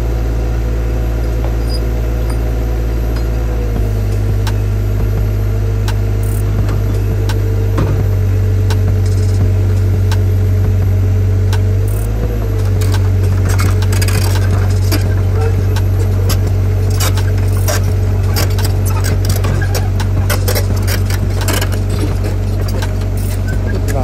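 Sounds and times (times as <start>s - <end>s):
heavy equipment engine running: 0.0s - 24.0s.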